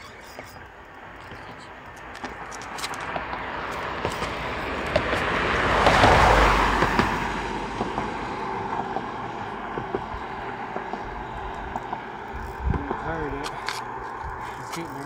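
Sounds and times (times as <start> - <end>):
car passing: 1.0 - 15.0.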